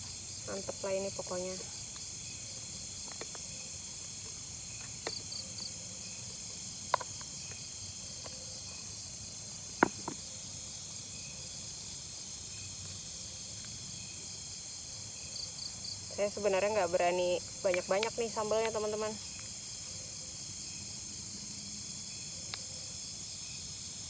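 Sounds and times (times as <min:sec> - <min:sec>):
forest insect chorus: 0:00.0 - 0:24.0
pulsing insect chirp: 0:00.0 - 0:24.0.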